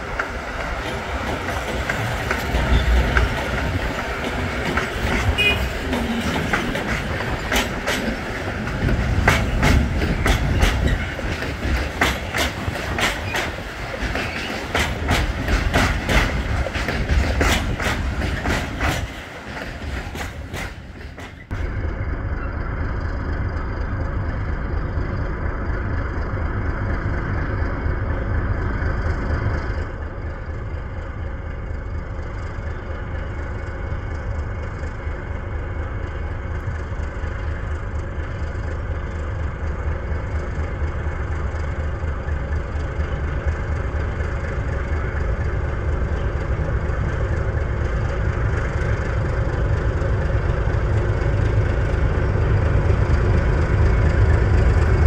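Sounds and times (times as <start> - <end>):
diesel locomotive engine droning: 0.0 - 55.0.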